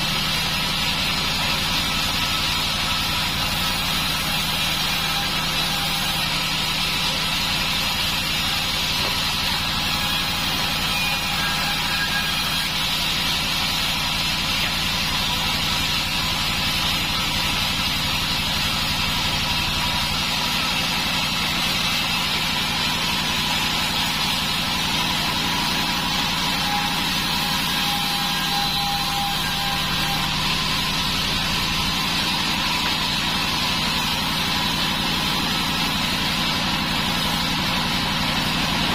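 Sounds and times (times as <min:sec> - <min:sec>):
band saw drone: 0:00.0 - 0:38.9.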